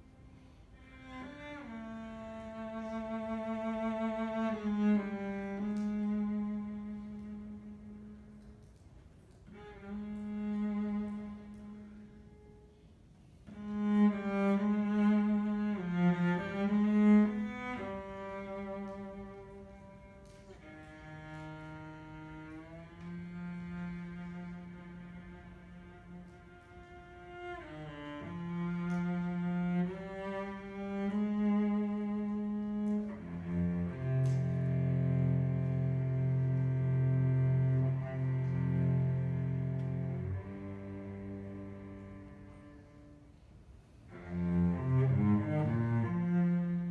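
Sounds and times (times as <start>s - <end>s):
cello bowing long low notes: 0.0s - 46.9s.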